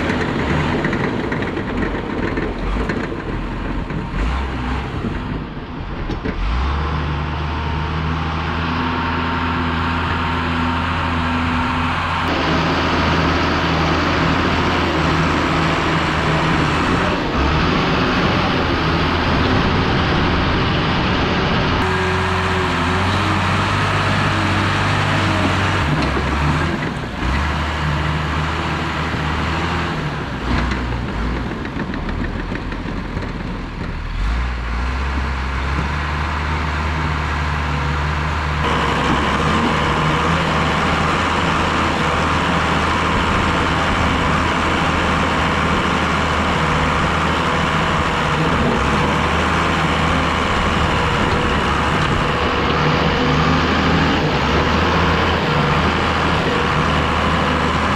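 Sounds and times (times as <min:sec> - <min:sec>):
heavy diesel engine working: 0:00.0 - 0:57.9.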